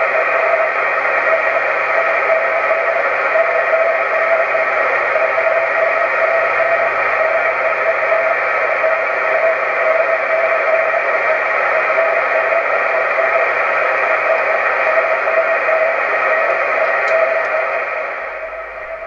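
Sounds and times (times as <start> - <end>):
receiver hiss: 0.0 - 19.0.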